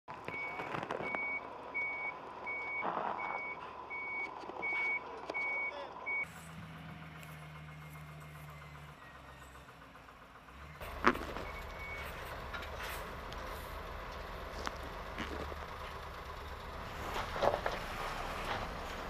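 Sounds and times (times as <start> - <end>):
truck diesel engine idling: 0.1 - 19.0.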